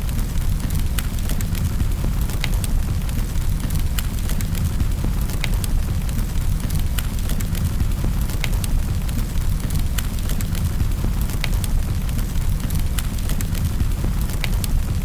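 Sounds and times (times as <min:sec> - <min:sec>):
fire crackling and popping: 0:00.0 - 0:15.0
low rumble of burning fire: 0:00.0 - 0:15.0.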